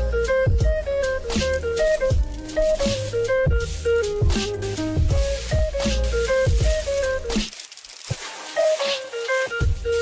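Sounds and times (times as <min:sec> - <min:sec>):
plucked melody background music: 0:00.0 - 0:10.0.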